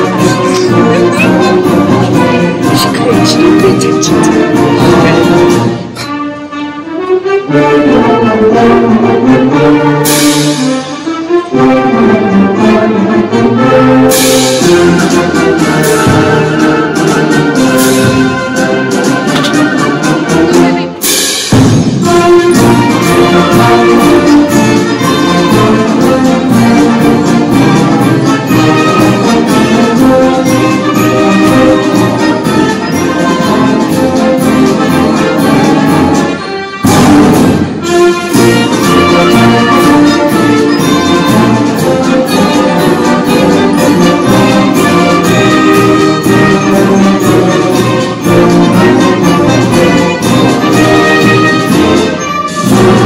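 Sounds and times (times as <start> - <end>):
concert band playing: 0.0 - 6.2, 7.9 - 53.0
held brass chords: 0.0 - 53.0.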